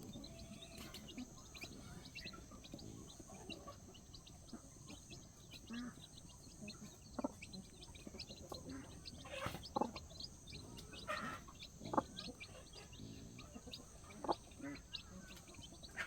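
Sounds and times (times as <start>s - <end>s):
chickens clucking: 0.0s - 16.0s
small birds chirping: 0.0s - 16.0s.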